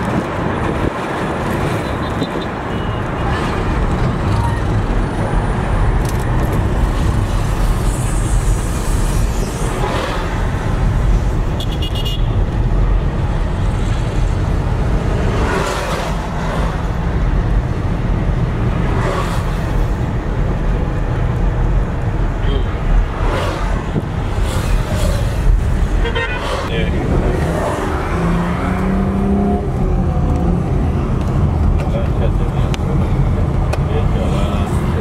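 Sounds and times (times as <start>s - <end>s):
car driving on highway: 0.0s - 35.0s.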